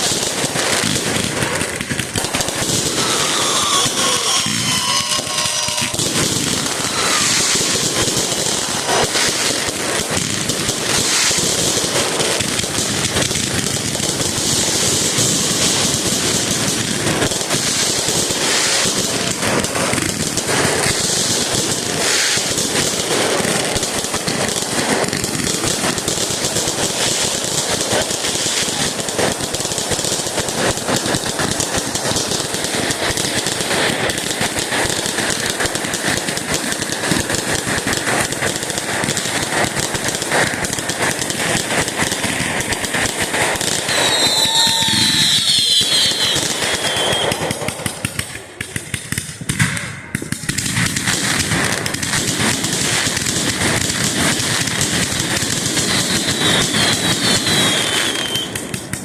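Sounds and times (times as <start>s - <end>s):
firecrackers crackling and popping: 0.0s - 59.0s
fireworks whistling: 0.0s - 59.0s.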